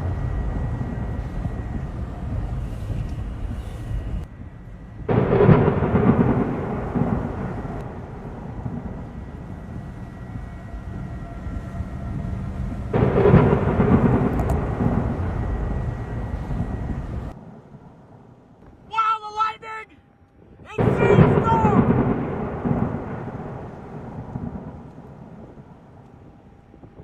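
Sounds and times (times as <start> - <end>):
rolling thunder: 0.0 - 18.9, 20.4 - 27.0.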